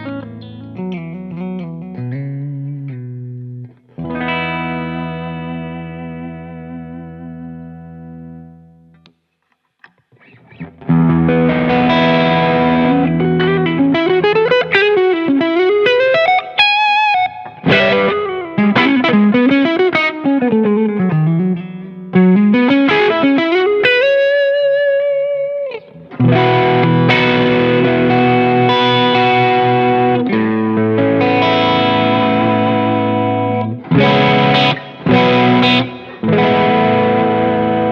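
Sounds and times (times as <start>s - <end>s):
distorted electric guitar: 0.0s - 9.1s, 9.8s - 37.9s.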